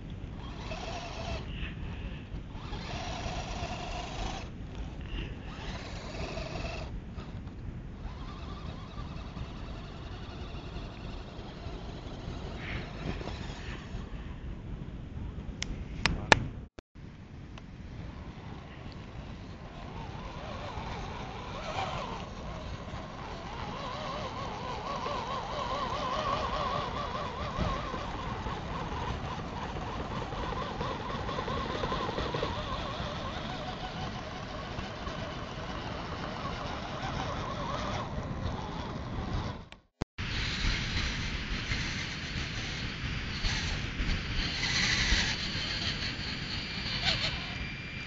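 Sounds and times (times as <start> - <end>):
rc crawler motors whining: 0.0 - 14.1, 18.0 - 48.0.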